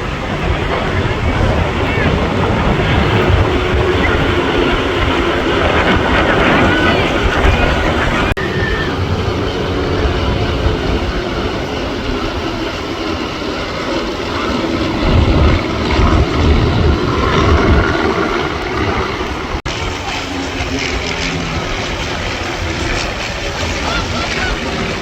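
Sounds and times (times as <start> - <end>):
aircraft engine rumble: 0.0 - 25.0.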